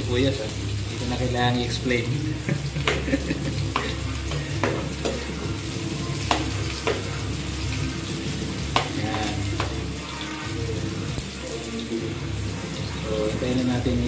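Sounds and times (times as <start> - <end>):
onion sizzling in oil: 0.0 - 14.0.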